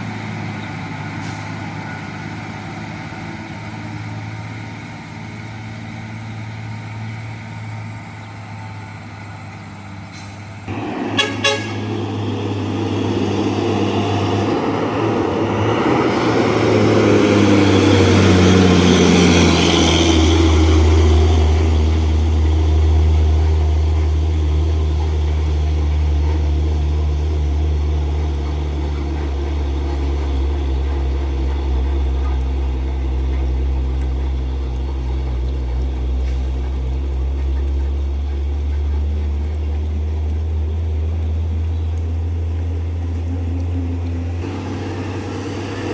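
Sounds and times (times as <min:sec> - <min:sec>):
dump truck engine passing: 0:00.0 - 0:45.9.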